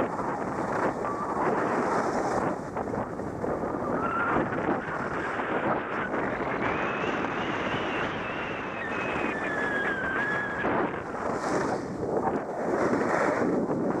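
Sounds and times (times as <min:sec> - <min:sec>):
skis scraping over snow: 0:00.0 - 0:14.0
wind buffeting microphone: 0:00.0 - 0:14.0.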